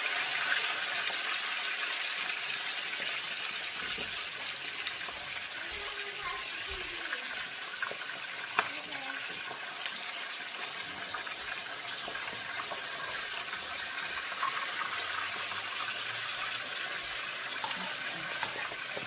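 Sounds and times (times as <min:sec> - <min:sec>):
fish frying: 0:00.0 - 0:19.0
pot boiling and bubbling: 0:00.0 - 0:19.0.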